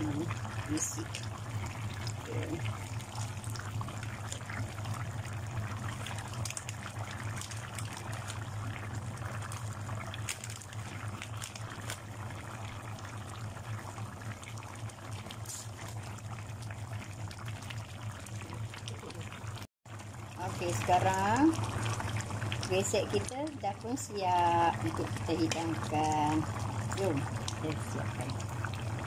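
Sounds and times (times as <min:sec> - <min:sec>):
curry bubbling and popping: 0:00.0 - 0:29.0.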